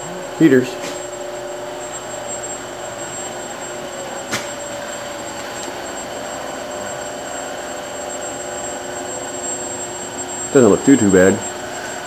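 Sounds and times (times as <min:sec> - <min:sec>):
space heaters whirring hum: 0:00.0 - 0:12.0.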